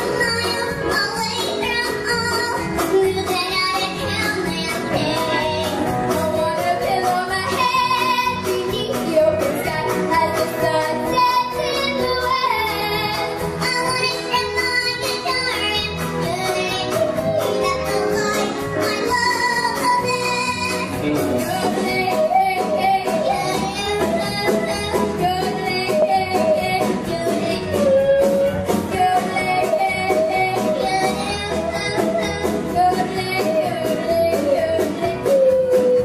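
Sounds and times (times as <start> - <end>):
backing music with steady beat: 0.0 - 36.0
girl singing into microphone: 0.0 - 36.0.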